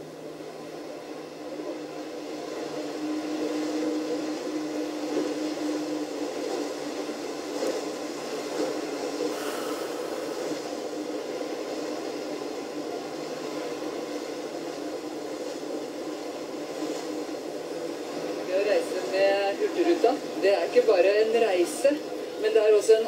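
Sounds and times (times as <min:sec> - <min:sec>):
low hum: 0:00.0 - 0:21.2
ship engine drone: 0:00.0 - 0:23.0.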